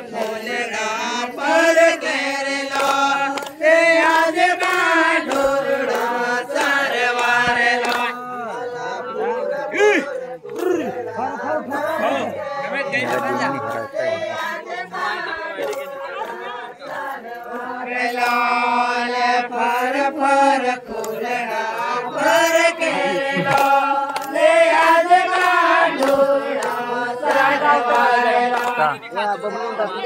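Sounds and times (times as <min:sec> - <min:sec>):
women singing together: 0:00.0 - 0:30.0
sharp hand claps: 0:00.1 - 0:08.3, 0:10.0 - 0:12.3, 0:12.9 - 0:18.8, 0:19.8 - 0:29.0.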